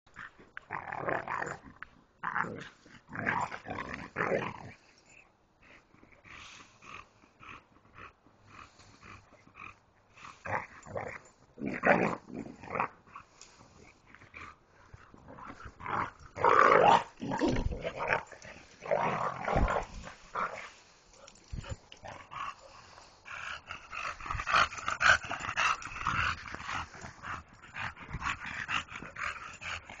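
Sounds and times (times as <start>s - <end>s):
dogs growling: 0.2s - 30.0s.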